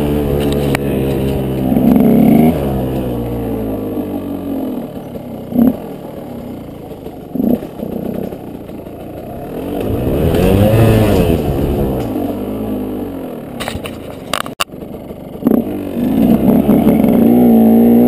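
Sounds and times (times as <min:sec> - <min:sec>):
dirt bike engine revving: 0:00.0 - 0:13.7, 0:14.7 - 0:18.0.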